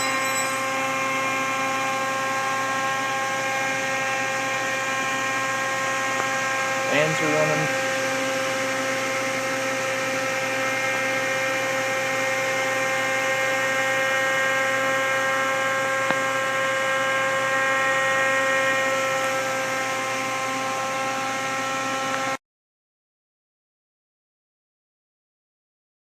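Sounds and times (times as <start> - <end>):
cooling fans humming and whining: 0.0 - 22.4.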